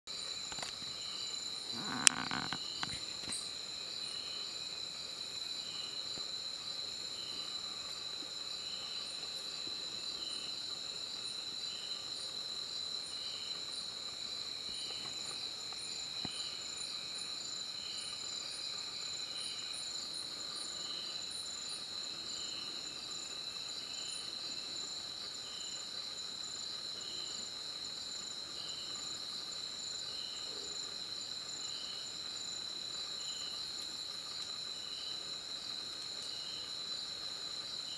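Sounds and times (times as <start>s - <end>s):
cricket trill: 0.1s - 37.9s
insect chirping: 0.1s - 37.9s.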